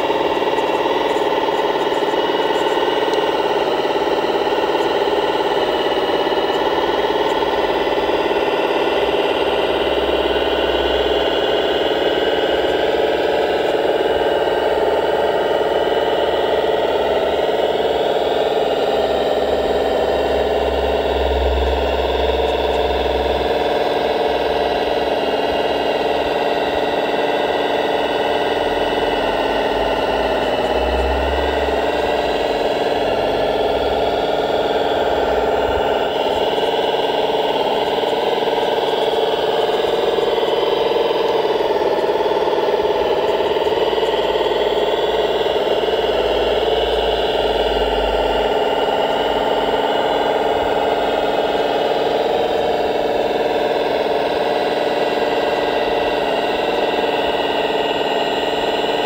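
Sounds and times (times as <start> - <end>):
model loader mechanical hum: 0.0 - 59.0.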